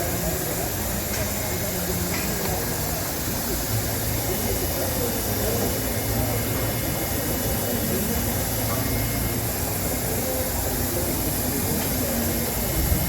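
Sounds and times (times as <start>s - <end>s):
shop machinery hum and hiss: 0.0s - 13.0s.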